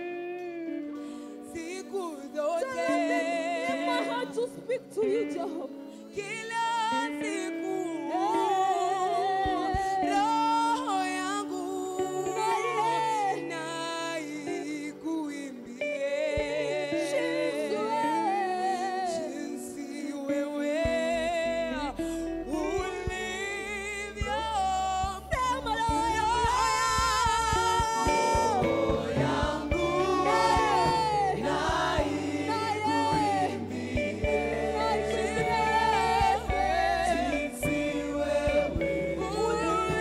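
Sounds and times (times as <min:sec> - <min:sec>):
group singing gospel song: 0:01.6 - 0:40.0.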